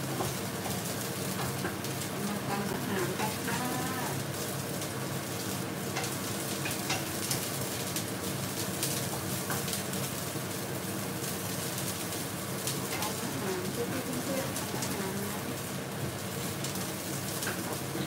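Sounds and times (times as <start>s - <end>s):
broccoli sizzling in hot oil: 0.0s - 18.0s.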